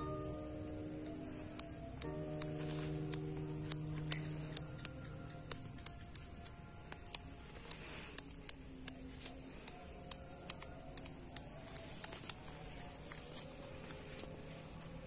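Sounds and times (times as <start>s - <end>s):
high-pitched hiss: 0.0s - 15.0s
sharp ticks: 0.0s - 15.0s.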